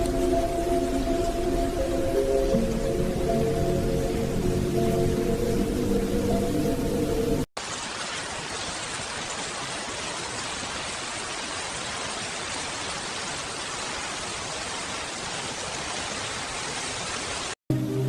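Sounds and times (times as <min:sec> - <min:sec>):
heavy rain hissing: 0:00.0 - 0:17.6.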